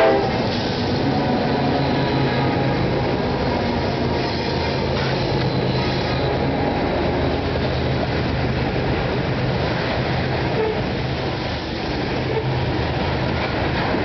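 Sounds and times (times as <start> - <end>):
diesel locomotive drone: 0.0 - 14.0
train wheels clattering on rails: 0.0 - 14.0.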